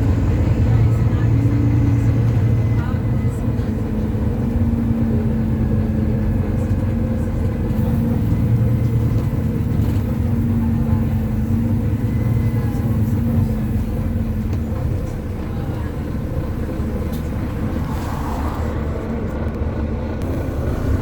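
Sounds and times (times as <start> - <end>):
bus diesel engine droning: 0.0 - 21.0
road and body noise: 0.0 - 21.0.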